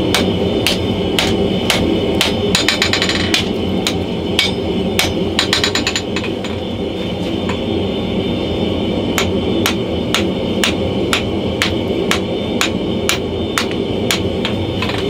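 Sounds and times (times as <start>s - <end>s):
hammer striking steel on anvil: 0.0s - 6.6s, 9.2s - 15.0s.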